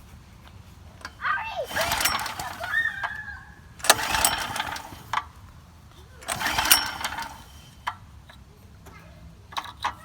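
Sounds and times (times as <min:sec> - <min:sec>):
generator recoil starter rasp: 0:00.0 - 0:10.0
recoil starter click: 0:01.0 - 0:05.6, 0:06.2 - 0:10.0.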